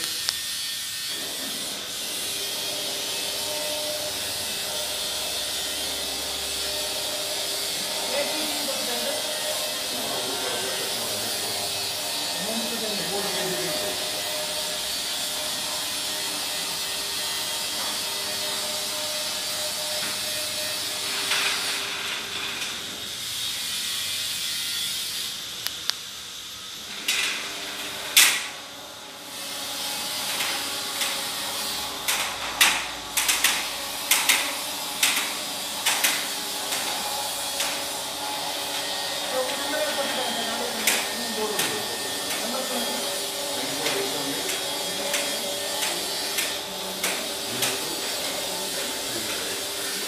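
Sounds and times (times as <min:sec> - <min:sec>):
rolling shutter motor humming: 0:00.0 - 0:50.0.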